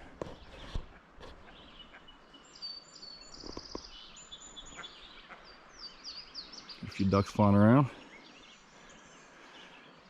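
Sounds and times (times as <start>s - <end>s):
outdoor background hiss: 0.0s - 10.0s
songbird chirping and trilling: 0.2s - 10.0s.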